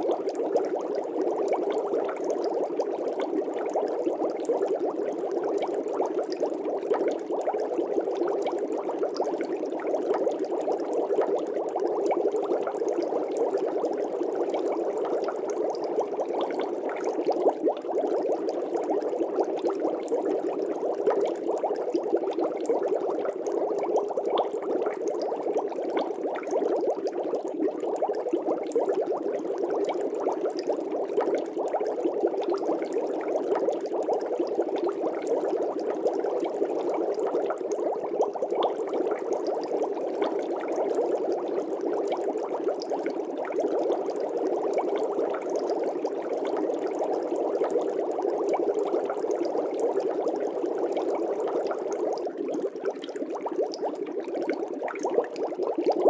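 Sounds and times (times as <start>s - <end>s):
aquarium water bubbling: 0.0s - 56.0s.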